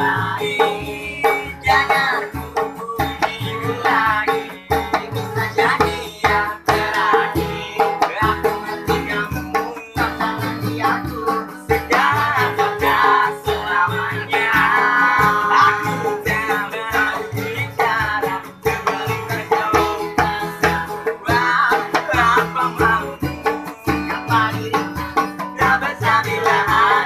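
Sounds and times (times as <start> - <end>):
acoustic guitars strummed: 0.0 - 27.0
hand-beaten plastic container drum: 0.0 - 27.0
people singing: 0.0 - 27.0.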